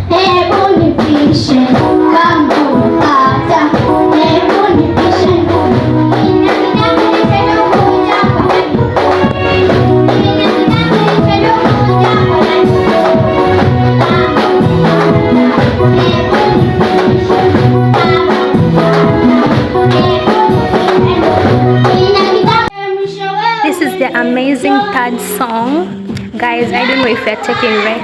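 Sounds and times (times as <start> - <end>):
band accompaniment: 0.0 - 22.7, 23.6 - 28.0
repeating bass line: 0.0 - 22.7
children singing: 0.2 - 23.8.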